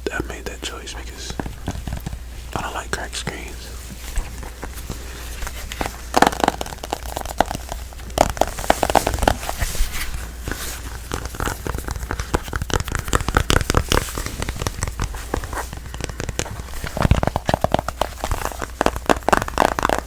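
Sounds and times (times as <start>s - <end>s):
faint crinkly crackle: 0.0s - 20.0s.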